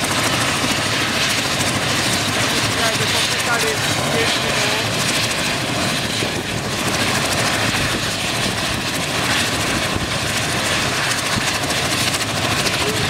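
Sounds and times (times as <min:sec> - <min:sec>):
helicopter turbine and rotor: 0:00.0 - 0:13.0.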